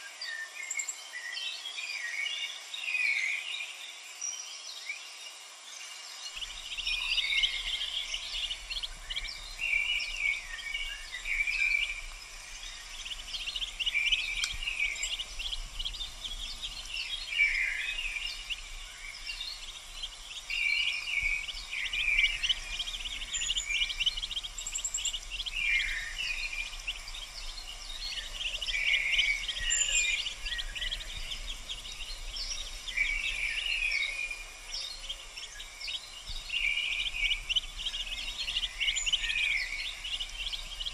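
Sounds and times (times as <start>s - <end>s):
ducklings peeping: 6.4s - 40.9s.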